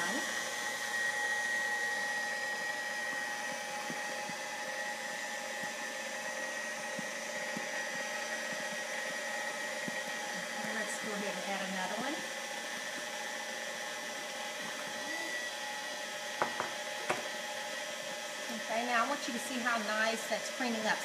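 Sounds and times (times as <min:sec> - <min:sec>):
stand mixer motor whine: 0:00.0 - 0:21.0.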